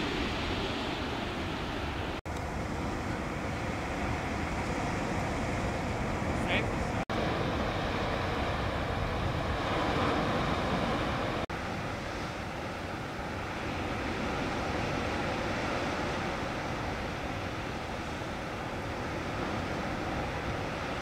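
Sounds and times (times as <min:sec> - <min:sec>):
sea rushing: 0:00.0 - 0:21.0
wind rumbling on microphone: 0:00.0 - 0:21.0.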